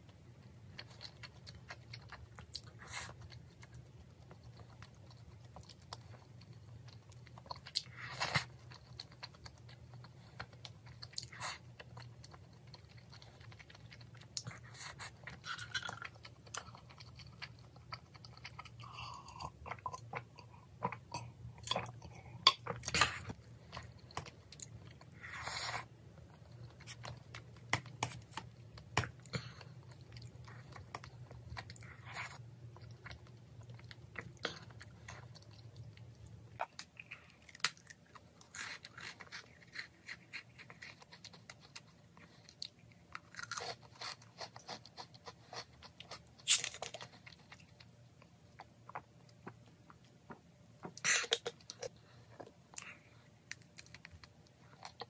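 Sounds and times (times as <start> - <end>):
chewing and mouth sounds: 0.0 - 55.0.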